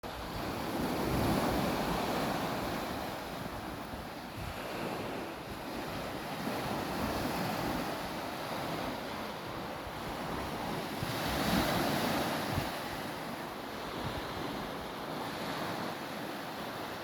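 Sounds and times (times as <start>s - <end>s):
waves washing on shore: 0.0s - 17.0s
wind rumbling on microphone: 0.1s - 17.0s.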